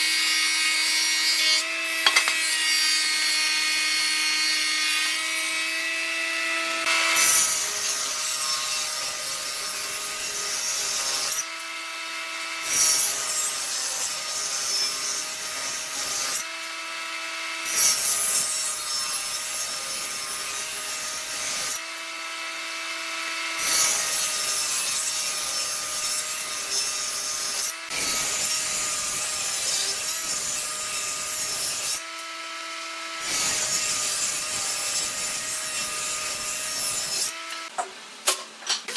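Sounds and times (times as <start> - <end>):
machine cutting wooden boards: 0.0 - 38.9.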